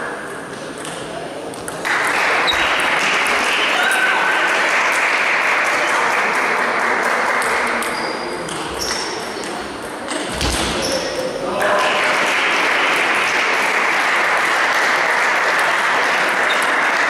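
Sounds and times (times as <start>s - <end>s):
crowd noise in large hall: 0.0s - 17.0s.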